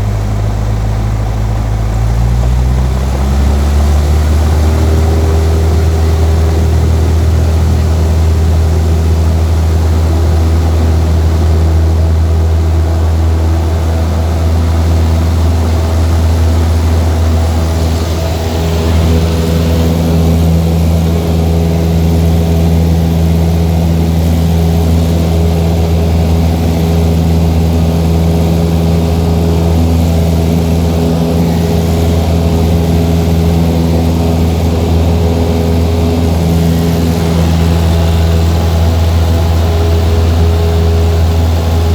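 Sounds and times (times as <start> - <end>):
propeller aircraft engine running: 0.0 - 41.9.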